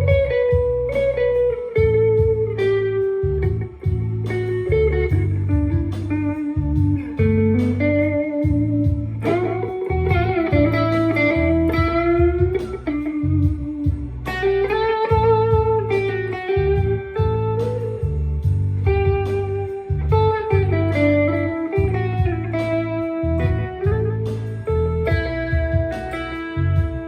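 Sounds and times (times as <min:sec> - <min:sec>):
low bass part: 0:00.0 - 0:27.0
overdriven electric guitar lead: 0:00.0 - 0:27.0.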